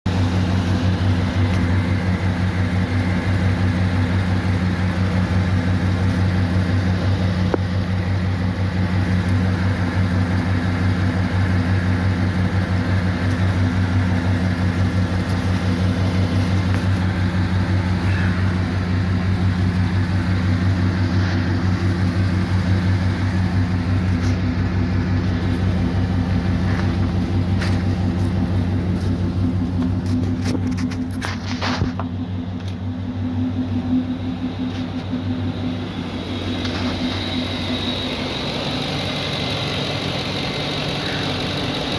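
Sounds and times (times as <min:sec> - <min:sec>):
truck engine running steadily: 0:00.0 - 0:41.9.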